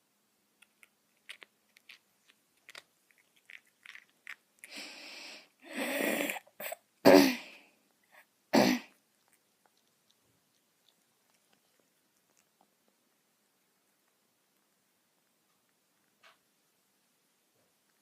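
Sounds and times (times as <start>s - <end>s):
cats licking and nibbling: 0.5s - 5.6s, 7.6s - 18.0s.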